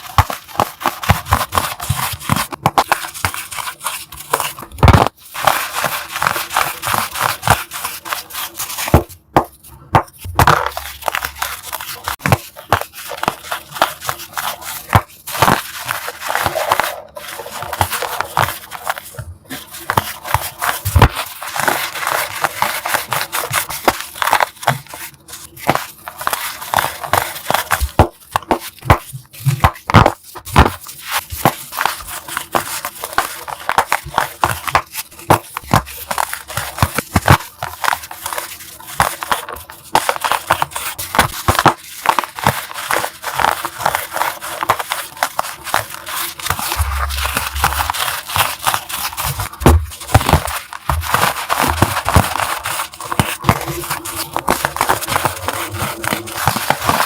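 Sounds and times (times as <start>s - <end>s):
chalk blocks crunching: 0.0s - 57.0s.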